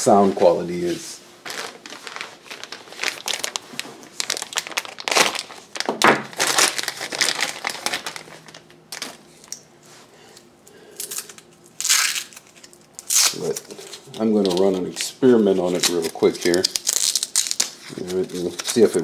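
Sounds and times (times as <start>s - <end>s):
packaging crinkling: 1.4s - 9.6s, 11.0s - 19.0s.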